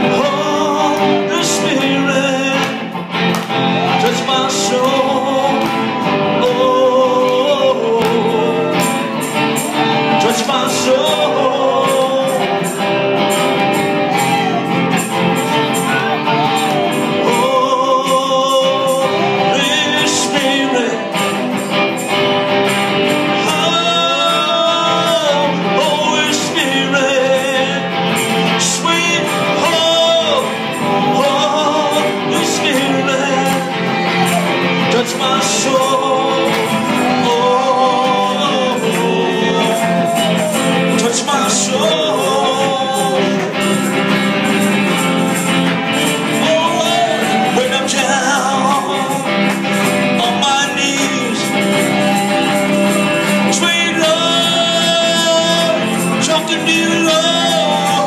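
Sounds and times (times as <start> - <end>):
instrumental accompaniment: 0.0 - 58.0
person singing: 0.0 - 58.0.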